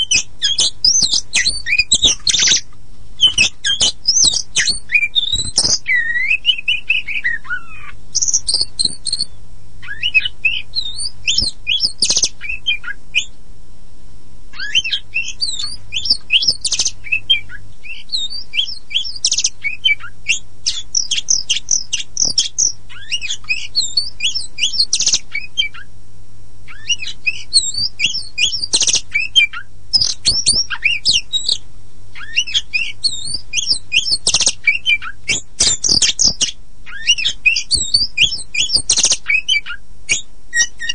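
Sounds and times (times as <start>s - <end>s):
bird singing high chirps and whistles: 0.0s - 13.4s, 14.5s - 25.9s, 26.7s - 31.6s, 32.2s - 40.9s.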